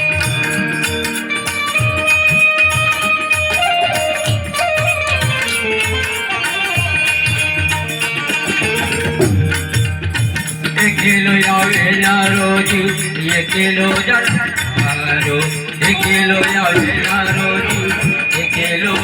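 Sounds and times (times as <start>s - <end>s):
hand drum beat: 0.0s - 19.0s
melody instrument playing tune: 0.0s - 19.0s
rattling percussion: 0.0s - 19.0s.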